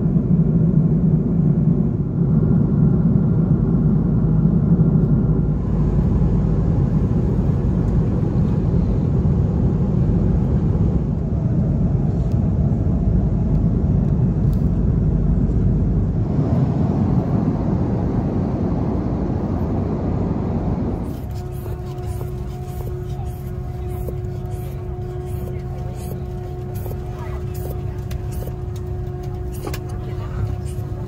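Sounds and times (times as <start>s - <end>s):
airliner cabin roar: 0.0s - 31.0s.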